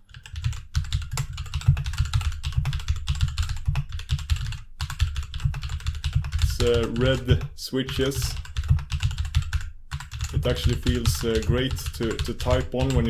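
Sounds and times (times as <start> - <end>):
mechanical keyboard typing: 0.1 - 13.0.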